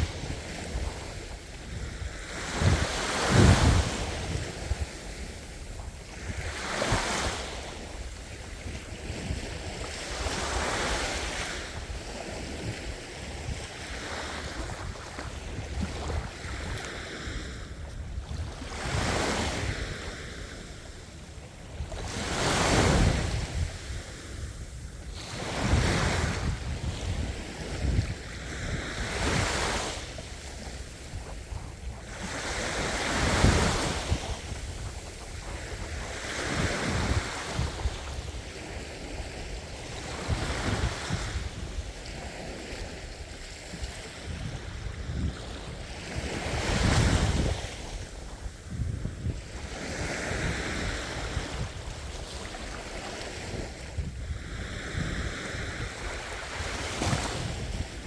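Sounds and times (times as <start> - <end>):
ocean waves washing ashore: 0.0 - 58.0
wind rumbling on microphone: 0.0 - 58.0.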